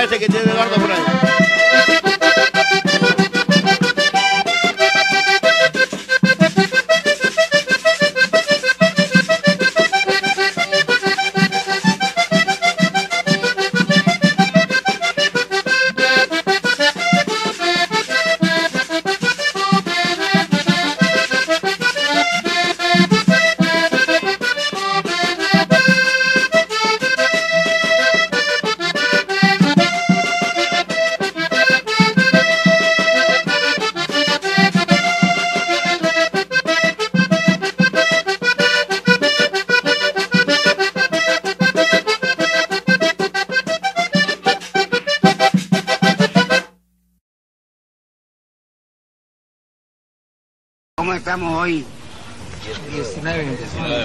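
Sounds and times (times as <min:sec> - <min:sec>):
accordion music over low pulse: 0:00.0 - 0:47.1.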